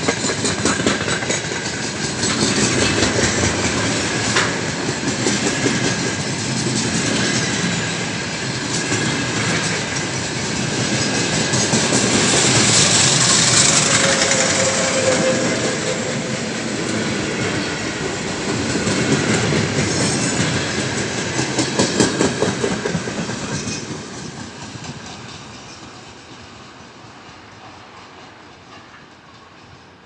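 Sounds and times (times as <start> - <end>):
train wheels clattering over rails: 0.0 - 30.0.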